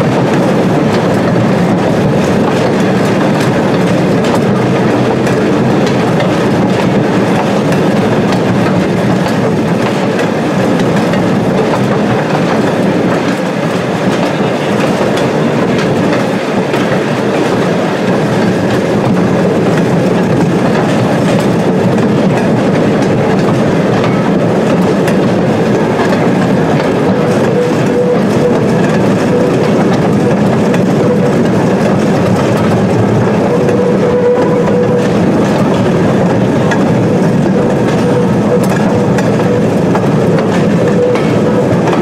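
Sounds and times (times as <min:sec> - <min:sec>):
locomotive engine running: 0:00.0 - 0:42.0
wheels clickety-clack on rail joints: 0:00.0 - 0:42.0.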